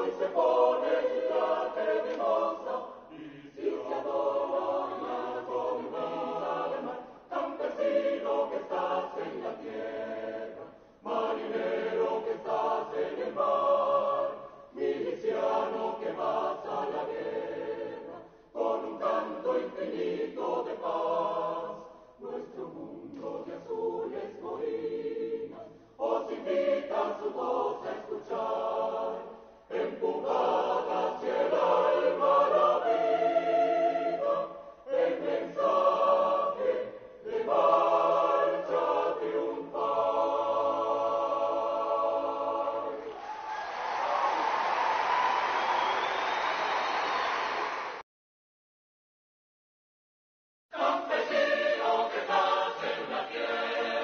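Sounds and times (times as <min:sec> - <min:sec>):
choir singing: 0:00.0 - 0:48.0, 0:50.7 - 0:54.0.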